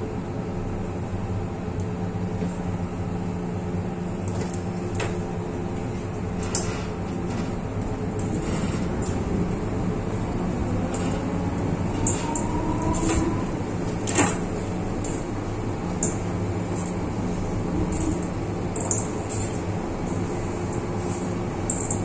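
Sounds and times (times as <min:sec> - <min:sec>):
train rumble and hum: 0:00.0 - 0:22.0.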